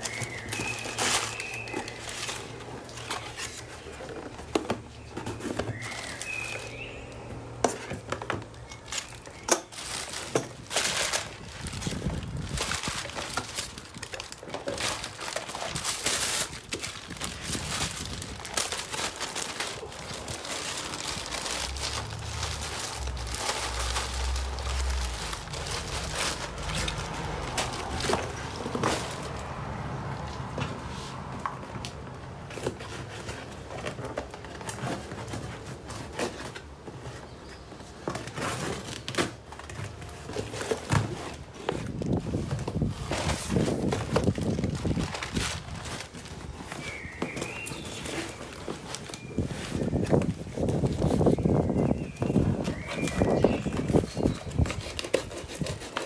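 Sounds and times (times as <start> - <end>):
paper and plastic crinkling: 0.0 - 56.0.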